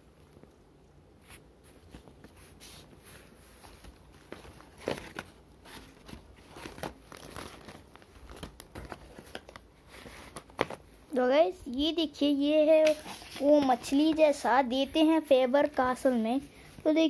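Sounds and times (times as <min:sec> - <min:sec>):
paper rustling: 0:01.2 - 0:10.9, 0:12.7 - 0:17.0.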